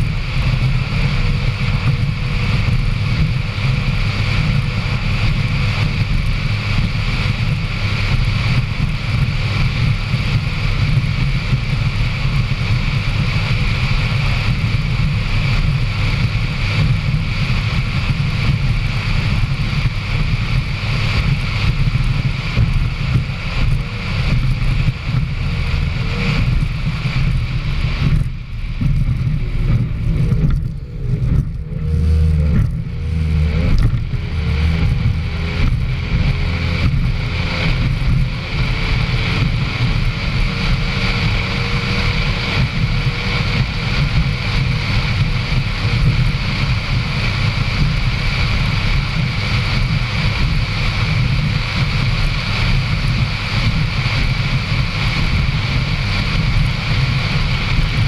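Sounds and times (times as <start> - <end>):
powerboat engine running hard: 0.0 - 58.0.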